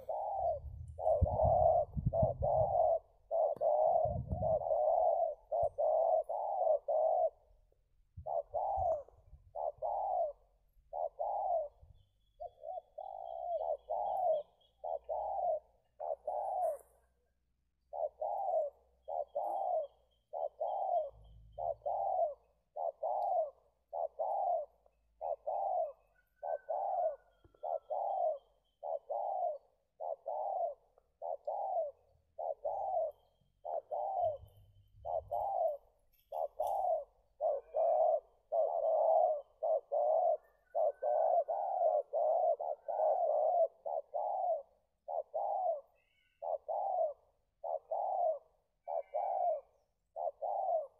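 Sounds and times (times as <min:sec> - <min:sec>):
dove cooing: 0:00.0 - 0:50.9
faint high bird chirps: 0:00.0 - 0:50.9.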